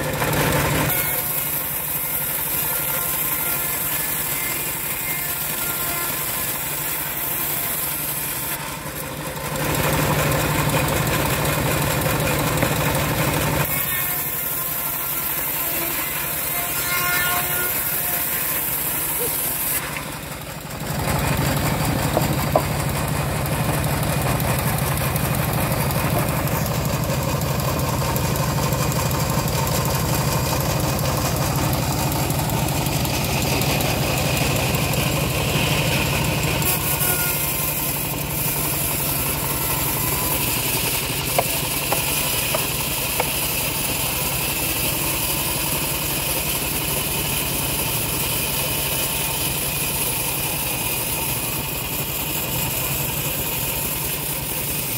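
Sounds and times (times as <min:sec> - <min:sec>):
bandsaw mill cutting log: 0:00.0 - 0:54.9.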